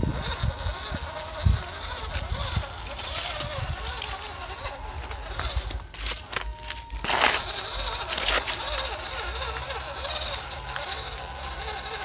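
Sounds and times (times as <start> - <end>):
small electric motors running: 0.0 - 12.0
tyres grinding on stones: 0.0 - 12.0.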